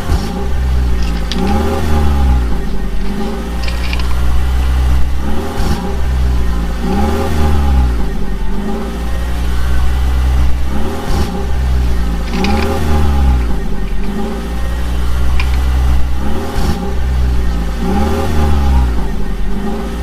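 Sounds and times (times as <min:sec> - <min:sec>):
cartoon engine drone: 0:00.0 - 0:20.0.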